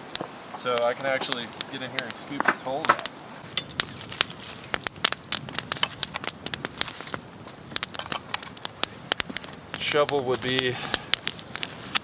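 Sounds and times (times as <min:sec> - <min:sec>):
embers crackling as scooped: 0:00.0 - 0:12.0.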